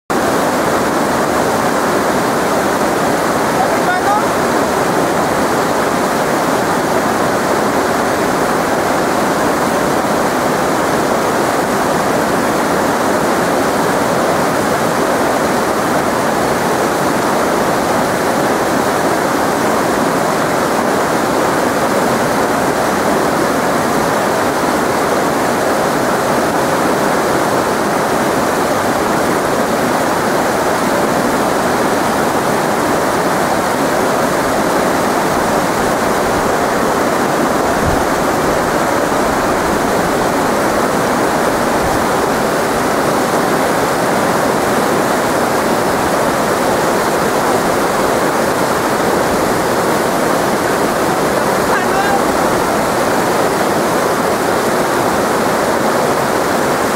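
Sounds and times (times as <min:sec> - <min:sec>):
river rushing over rocks: 0:00.1 - 0:56.9.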